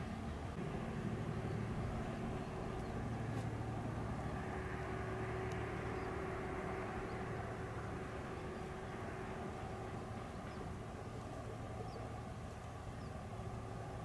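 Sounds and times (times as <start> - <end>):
jet engines idling: 0.0 - 14.0
thin steady whine: 0.0 - 14.0.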